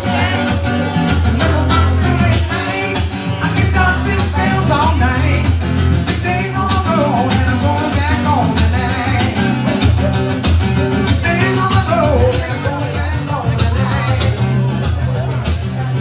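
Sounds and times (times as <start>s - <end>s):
person singing: 0.0s - 15.3s
guitar: 0.0s - 16.0s
heavy bass beat: 0.0s - 16.0s.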